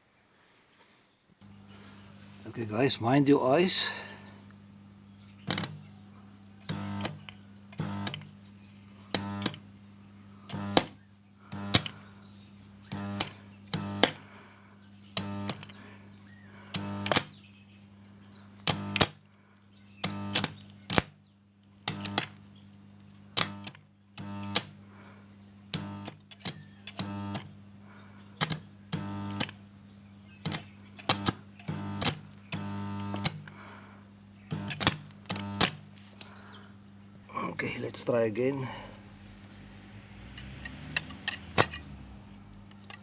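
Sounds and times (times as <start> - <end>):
welder hum: 1.4 - 21.2, 21.8 - 43.0
arc welder crackling buzz: 1.4 - 43.0.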